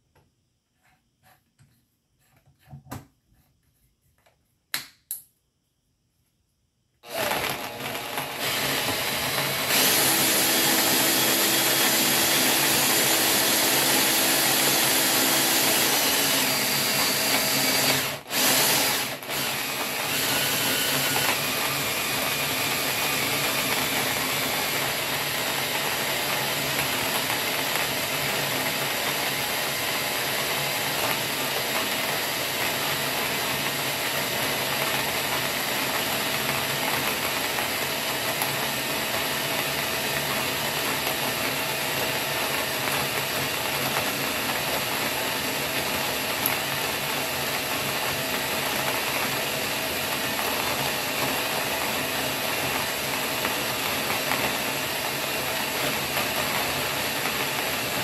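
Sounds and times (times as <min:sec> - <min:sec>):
drill grinding coffee beans: 0:07.0 - 0:58.0.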